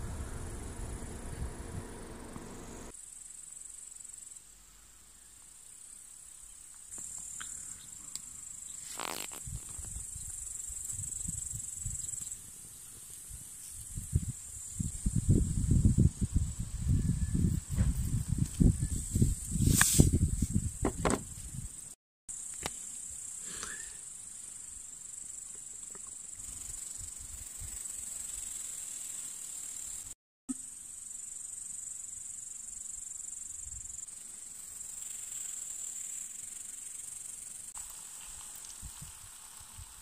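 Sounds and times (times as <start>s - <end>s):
insects chirping: 0.0s - 19.6s, 20.2s - 40.0s.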